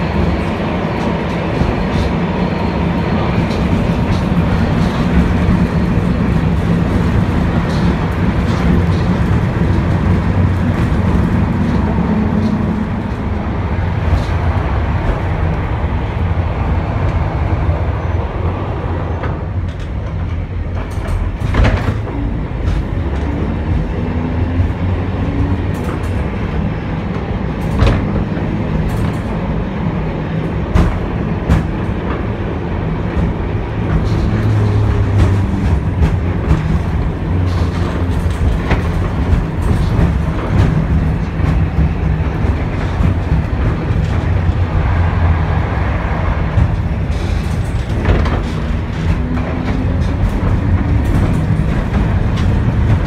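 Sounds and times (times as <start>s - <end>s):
tram running gear rumbling: 0.0s - 53.0s
wheels clicking on rails: 0.0s - 53.0s.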